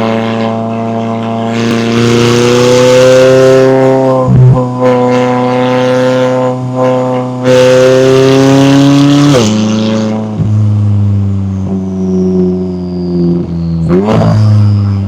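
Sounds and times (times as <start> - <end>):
car exhaust accelerating: 0.0 - 15.0.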